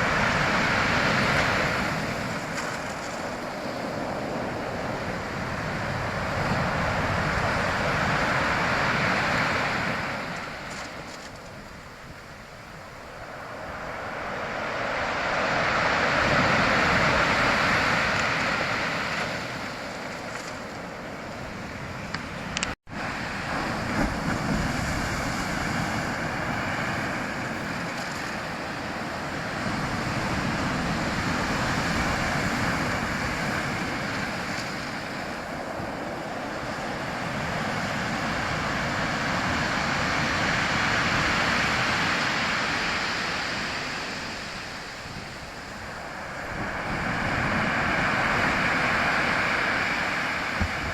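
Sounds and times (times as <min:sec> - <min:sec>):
rushing water: 0:00.0 - 0:50.9.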